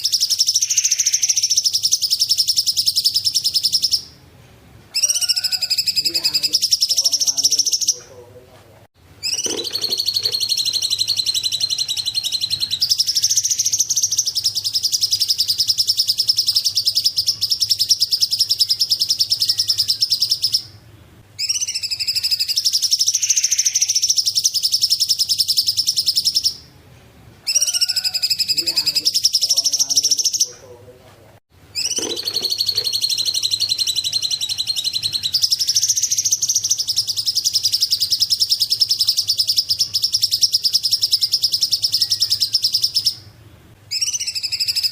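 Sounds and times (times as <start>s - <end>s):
bird chattering trills: 0.0s - 4.2s, 4.9s - 8.2s, 9.2s - 20.8s, 21.4s - 26.6s, 27.4s - 30.6s, 31.7s - 43.3s, 43.9s - 44.9s.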